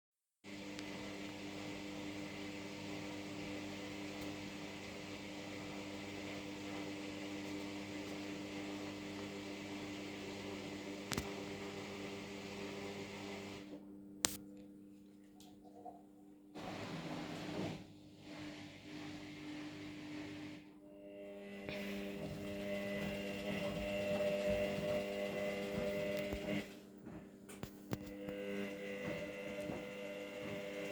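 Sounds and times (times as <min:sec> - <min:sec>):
washing machine humming: 0:00.4 - 0:14.2, 0:15.0 - 0:30.9.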